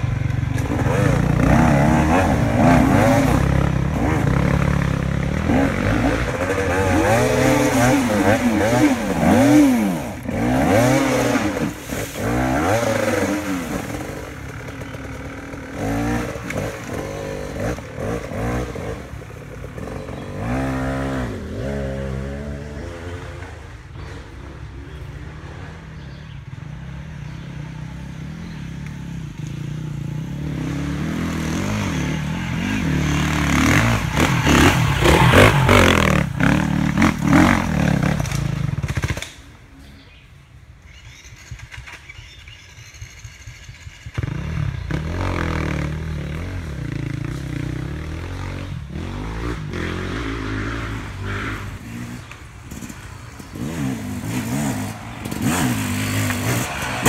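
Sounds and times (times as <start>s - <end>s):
dirt bike engine approaching: 0.0s - 57.0s
dirt bike engines revving: 0.0s - 57.0s.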